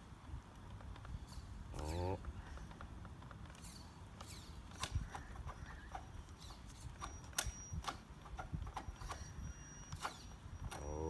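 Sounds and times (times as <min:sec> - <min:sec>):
faint high electric whine: 0:00.0 - 0:11.0
toy truck drivetrain clicking: 0:00.7 - 0:11.0.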